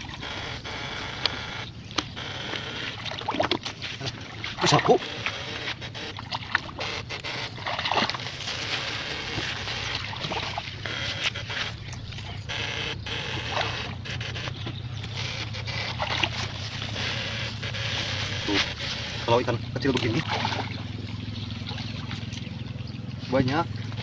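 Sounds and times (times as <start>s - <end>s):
low electrical hum: 0.0s - 24.0s
water sloshing and splashing: 0.0s - 24.0s.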